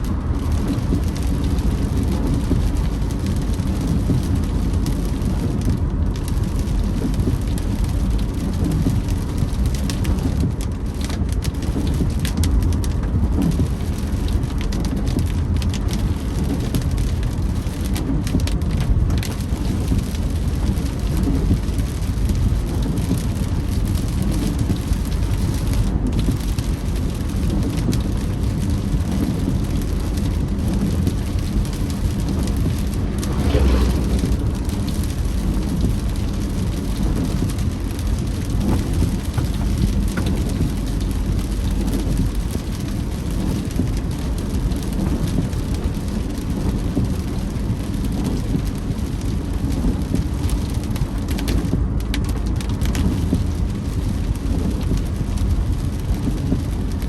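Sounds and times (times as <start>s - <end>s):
rain on a moving car: 0.0s - 57.0s
road and tyre noise: 0.0s - 57.0s.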